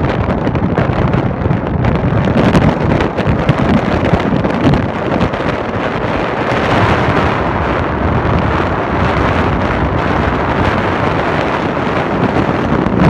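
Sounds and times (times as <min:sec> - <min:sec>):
car road noise: 0:00.0 - 0:13.0
wind rushing on microphone: 0:00.0 - 0:13.0.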